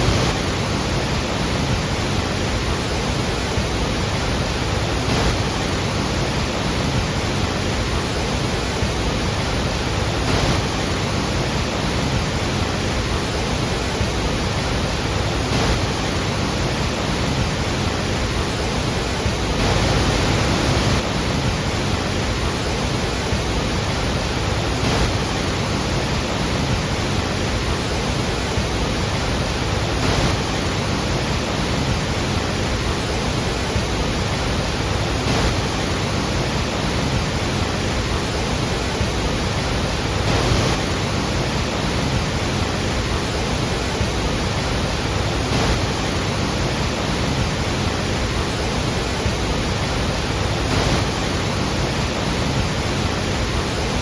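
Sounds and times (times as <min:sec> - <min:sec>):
waterfall rushing water: 0:00.0 - 0:54.0.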